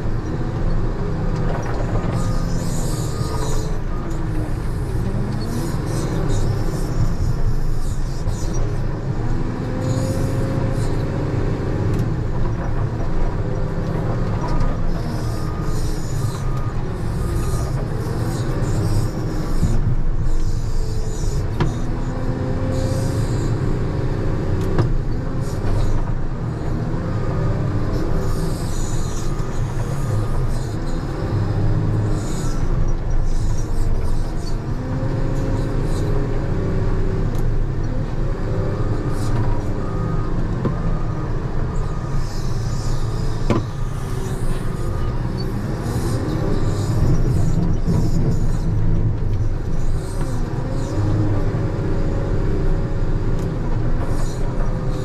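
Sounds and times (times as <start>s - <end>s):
diesel loader engine revving: 0.0s - 55.0s.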